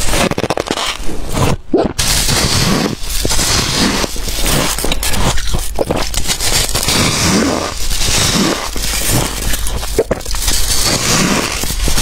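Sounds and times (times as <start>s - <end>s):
chewing crunchy frost: 0.1s - 12.0s.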